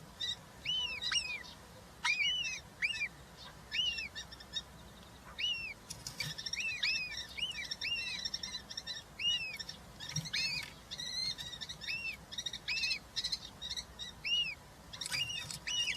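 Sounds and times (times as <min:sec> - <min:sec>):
bird chirps: 0:00.2 - 0:15.9.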